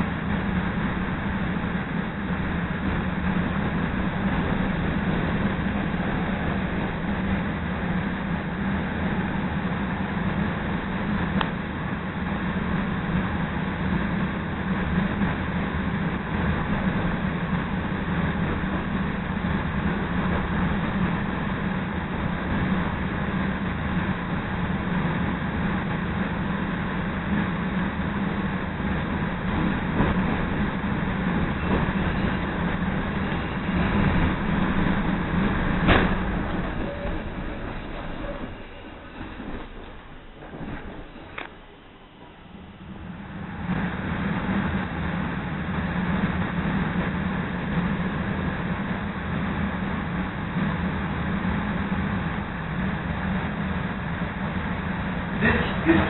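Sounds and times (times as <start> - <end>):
train rolling on track: 0.0 - 56.0.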